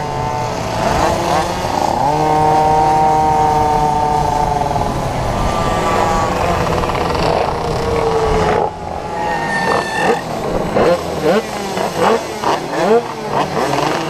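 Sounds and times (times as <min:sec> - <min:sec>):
small two-stroke engine whining: 0:00.0 - 0:14.0.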